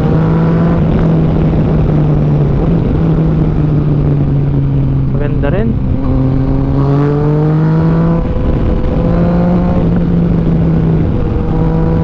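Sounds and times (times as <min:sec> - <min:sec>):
loud wind rush: 0:00.0 - 0:12.0
motorcycle engine accelerating: 0:00.0 - 0:12.0.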